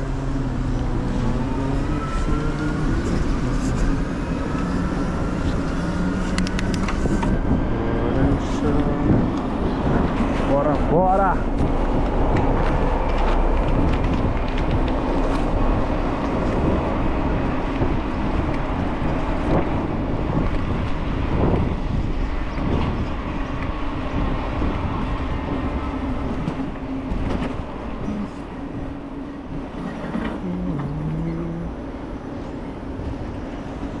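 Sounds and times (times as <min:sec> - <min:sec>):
vehicle low rumble: 0:00.0 - 0:34.0.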